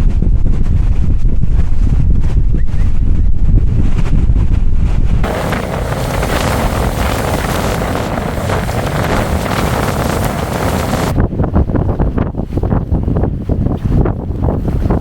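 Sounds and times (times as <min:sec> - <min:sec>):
gusting wind buffeting microphone: 0:00.0 - 0:15.0.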